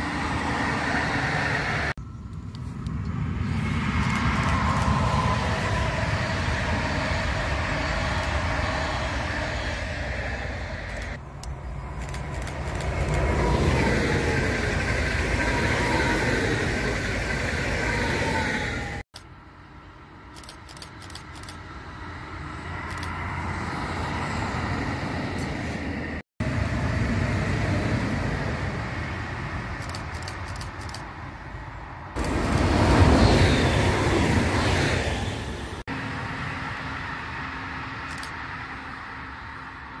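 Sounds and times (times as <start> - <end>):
tram motor hum: 0.0 - 31.5, 32.1 - 40.0
rushing train noise: 0.0 - 40.0
train wheel and running noise: 0.0 - 40.0.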